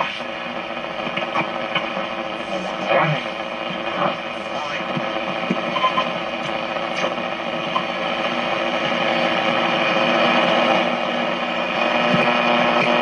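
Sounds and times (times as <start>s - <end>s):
radio crackle: 0.0s - 13.0s
radio static hiss: 0.0s - 13.0s.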